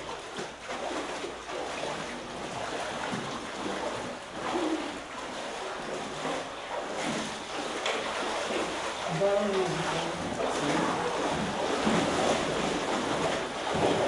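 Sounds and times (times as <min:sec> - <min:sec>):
people wading through water: 0:00.0 - 0:14.0.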